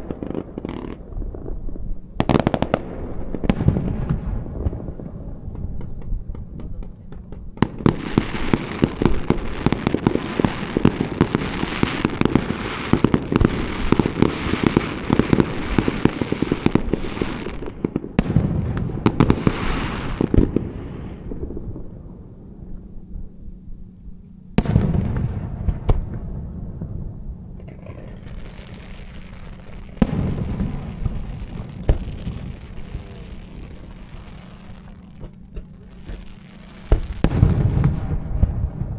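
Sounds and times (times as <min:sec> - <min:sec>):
fireworks crackling pops: 0:00.0 - 0:22.9, 0:24.6 - 0:38.9.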